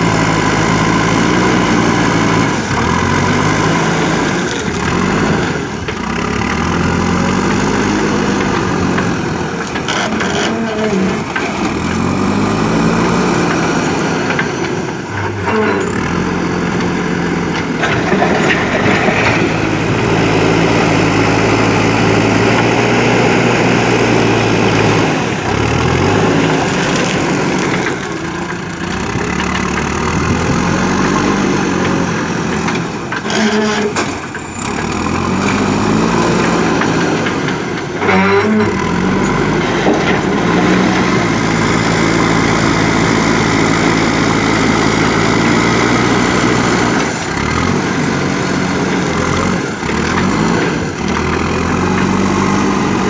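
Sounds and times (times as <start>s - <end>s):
diesel engine revving: 0.0s - 53.0s.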